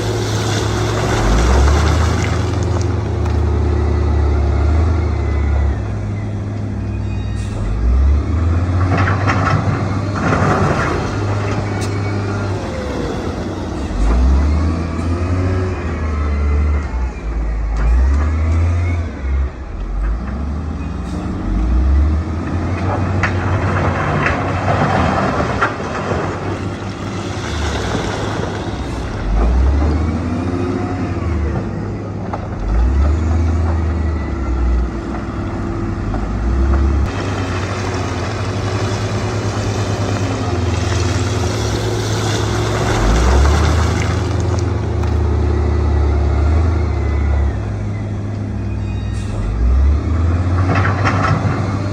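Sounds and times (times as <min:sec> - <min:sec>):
diesel earthmover engine revving: 0:00.0 - 0:51.9.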